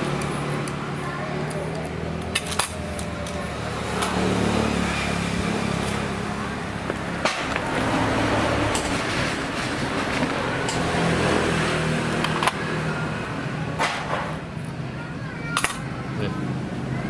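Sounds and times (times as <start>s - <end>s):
background traffic: 0.0s - 17.0s.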